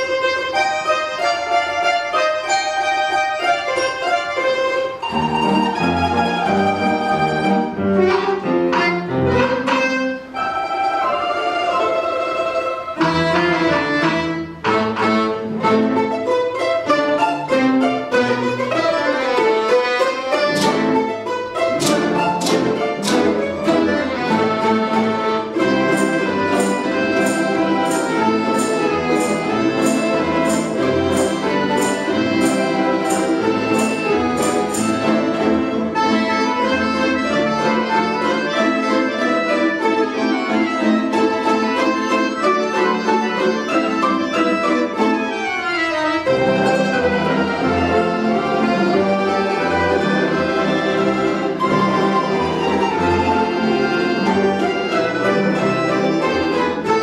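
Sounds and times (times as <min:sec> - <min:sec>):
folk instrument ensemble playing: 0:00.0 - 0:57.0.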